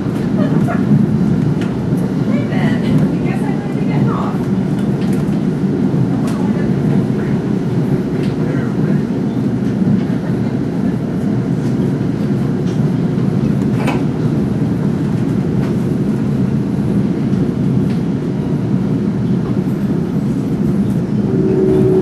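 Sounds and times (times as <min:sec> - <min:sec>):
train rumble from inside coach: 0:00.0 - 0:22.0.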